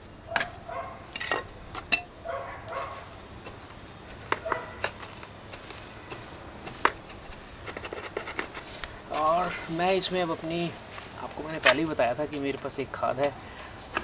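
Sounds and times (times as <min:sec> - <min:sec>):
metal tool scraping dry soil: 0:00.0 - 0:14.0.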